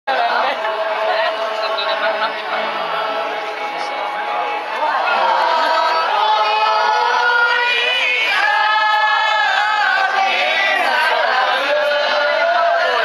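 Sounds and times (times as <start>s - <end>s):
women singing together: 0.1s - 4.0s, 4.8s - 13.0s
violins: 0.1s - 13.0s.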